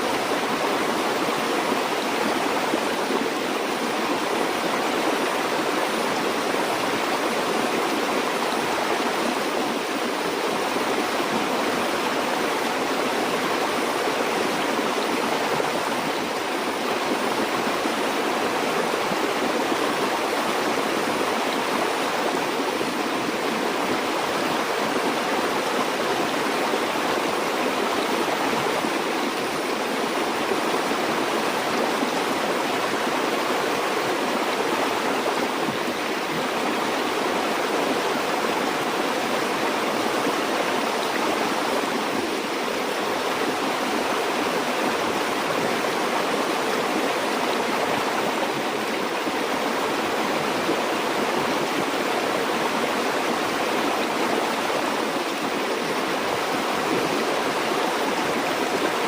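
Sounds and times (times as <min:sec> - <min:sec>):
stream water flowing over rocks: 0:00.0 - 0:59.0.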